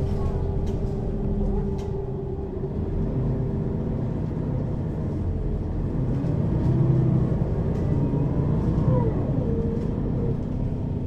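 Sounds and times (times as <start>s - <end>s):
bus engine and driveline drone: 0.0s - 11.0s
road rumble: 0.0s - 11.0s.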